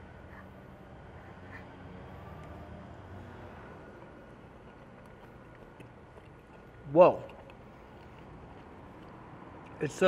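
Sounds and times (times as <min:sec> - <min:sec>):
faint background noise: 0:00.0 - 0:10.0.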